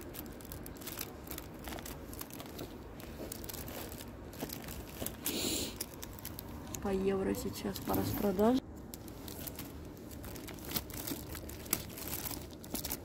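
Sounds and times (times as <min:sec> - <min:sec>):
plastic sleeves crinkling: 0:00.0 - 0:13.0.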